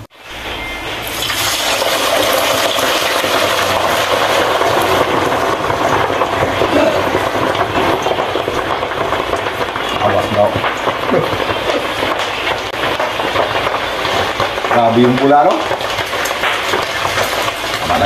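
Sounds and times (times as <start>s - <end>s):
meat deep-frying in hot oil: 0.0s - 18.0s.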